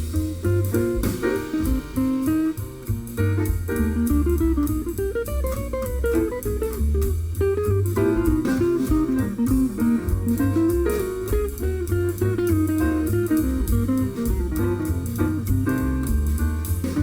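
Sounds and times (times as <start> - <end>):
guitar music through car speakers: 0.0 - 17.0.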